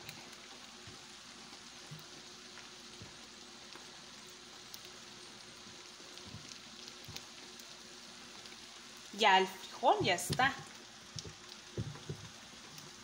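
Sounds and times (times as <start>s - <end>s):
small pops: 0.0s - 8.6s, 9.9s - 13.0s
food sizzling in a skillet: 0.0s - 13.0s.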